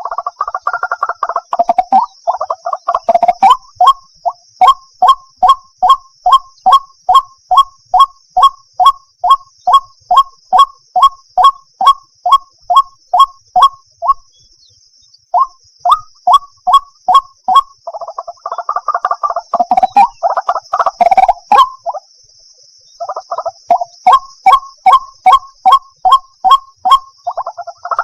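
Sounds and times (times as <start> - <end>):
waterhen calling: 0.0 - 14.2, 15.4 - 22.1, 23.0 - 28.0.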